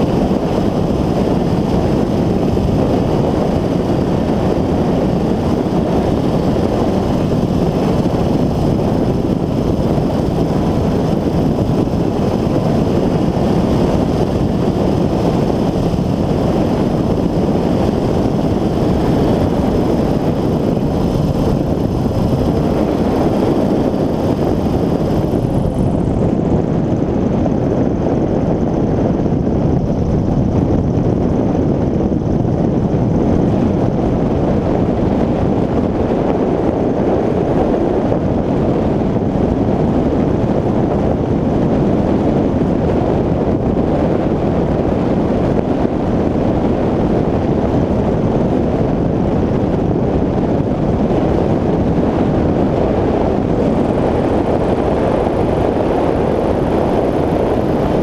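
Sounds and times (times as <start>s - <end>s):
ultralight engine and propeller: 0.0s - 58.0s
wind rushing over microphone: 0.0s - 58.0s.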